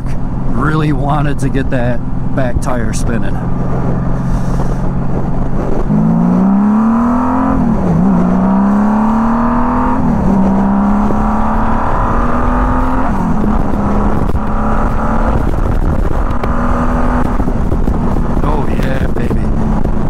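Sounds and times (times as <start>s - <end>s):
motorcycle engine accelerating: 3.2s - 20.0s.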